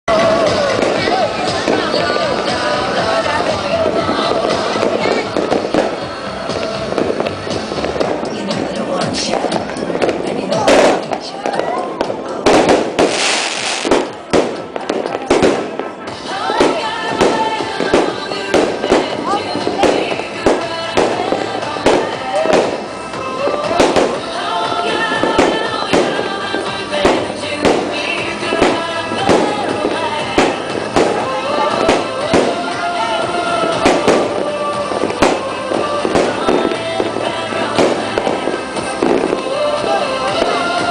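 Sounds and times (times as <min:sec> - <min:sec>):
fireworks crackling: 0:00.0 - 0:40.9
fireworks bangs: 0:00.1 - 0:40.9.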